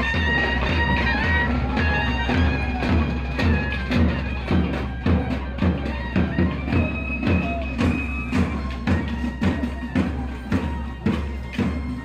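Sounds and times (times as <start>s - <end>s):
drum beating steadily: 0.0s - 12.0s
reedy wind instrument melody: 0.0s - 12.0s.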